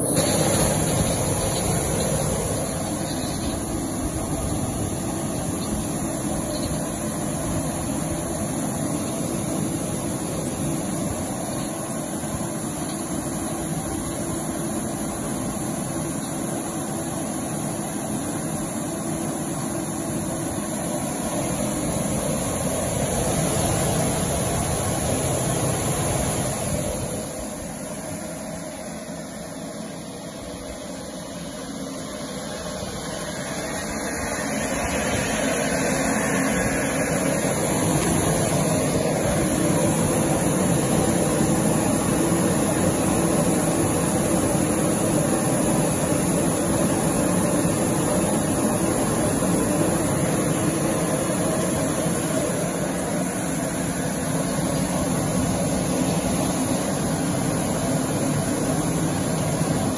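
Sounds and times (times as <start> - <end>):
water jets spraying in washing machine: 0.0 - 59.9.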